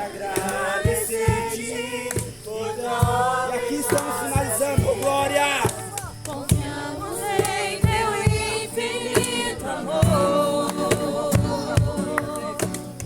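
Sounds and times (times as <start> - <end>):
group singing worship song: 0.0 - 13.0.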